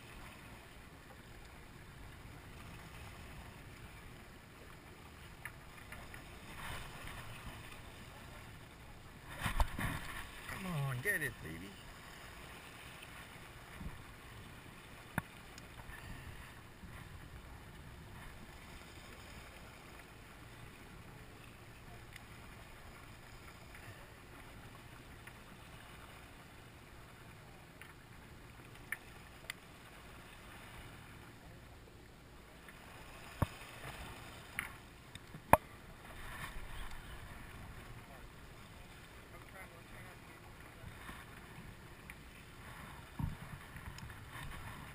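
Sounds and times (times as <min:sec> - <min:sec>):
sea water noise: 0:00.0 - 0:44.9
wind: 0:00.0 - 0:44.9.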